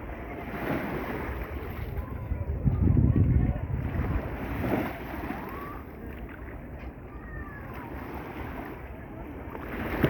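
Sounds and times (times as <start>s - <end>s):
sea waves washing: 0.0s - 10.0s
wind at the shore: 0.0s - 10.0s.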